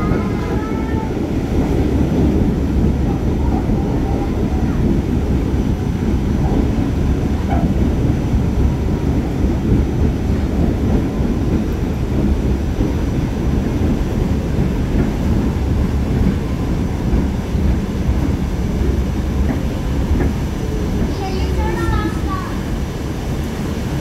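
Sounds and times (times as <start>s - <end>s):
subway car rumbling on rails: 0.0s - 24.0s.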